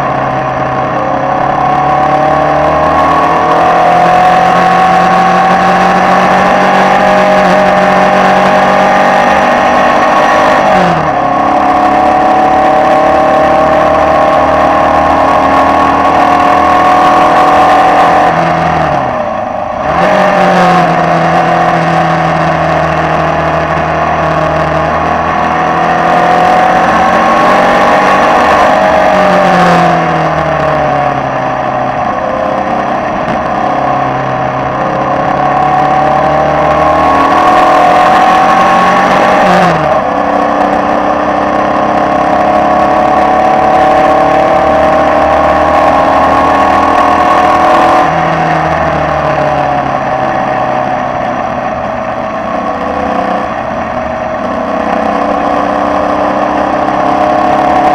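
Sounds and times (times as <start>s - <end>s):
racing car engine at full throttle: 0.0s - 57.9s.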